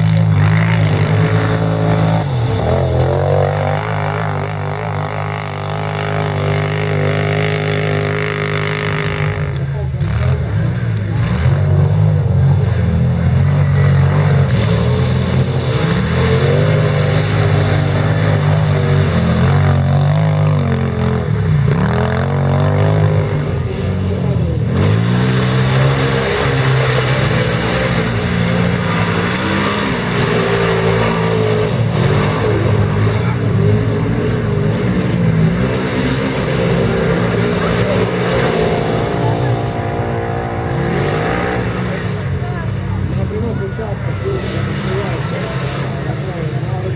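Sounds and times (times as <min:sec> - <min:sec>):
quad bike engines revving: 0:00.0 - 0:46.9.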